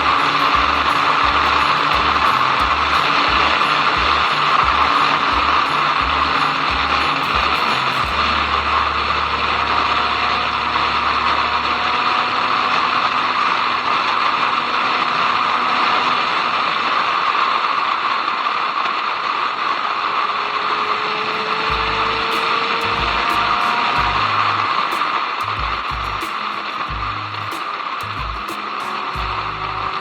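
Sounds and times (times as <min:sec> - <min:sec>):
motorcycle engine: 0:00.0 - 0:16.9, 0:20.3 - 0:30.0.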